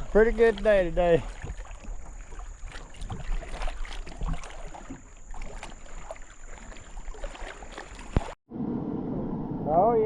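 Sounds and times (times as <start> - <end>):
water moving around canoe hull: 0.0 - 8.4.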